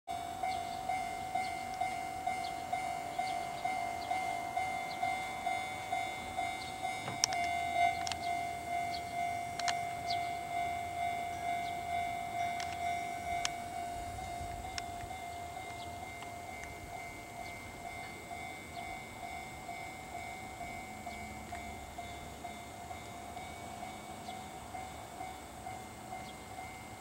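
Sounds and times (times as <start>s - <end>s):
level-crossing alarm bell chiming: 0.1s - 27.0s.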